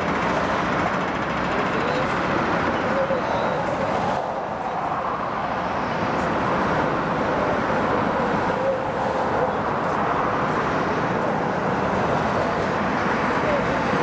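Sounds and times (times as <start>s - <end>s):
road traffic din: 0.0s - 14.0s.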